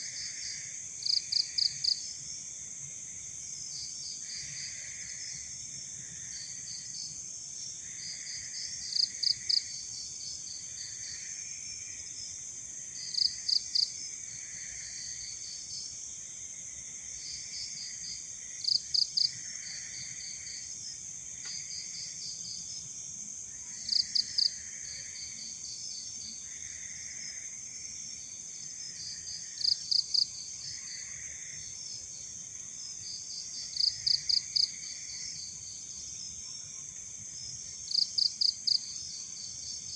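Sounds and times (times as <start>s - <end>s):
insects trilling: 0.0s - 2.1s, 3.2s - 16.4s, 17.1s - 39.9s
insects chirping: 0.0s - 39.9s.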